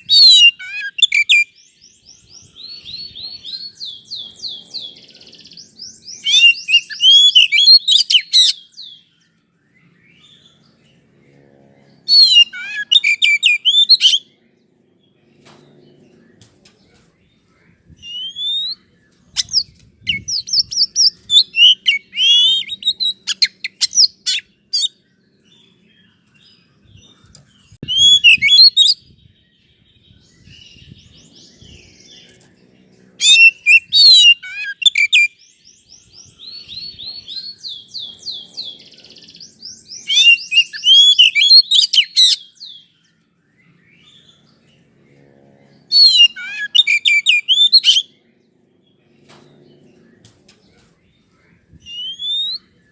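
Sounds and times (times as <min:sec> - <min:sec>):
bird singing whistles and trills: 0:00.0 - 0:10.8, 0:12.0 - 0:14.4, 0:17.3 - 0:32.5, 0:33.2 - 0:44.7, 0:45.8 - 0:48.2, 0:51.2 - 0:52.9.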